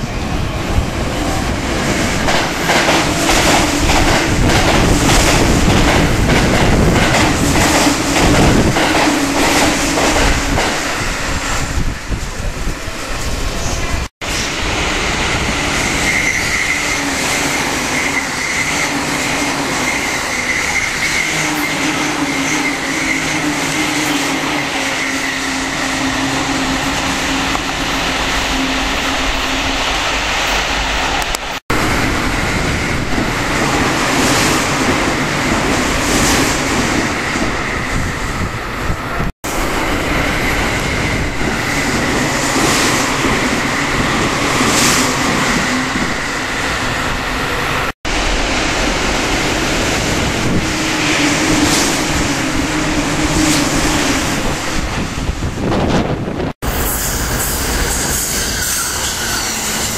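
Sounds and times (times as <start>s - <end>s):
electric trains passing fast: 0.0s - 59.9s.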